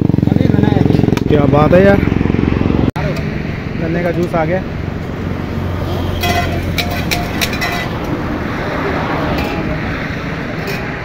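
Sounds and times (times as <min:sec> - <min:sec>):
highway traffic passing: 0:00.0 - 0:11.0.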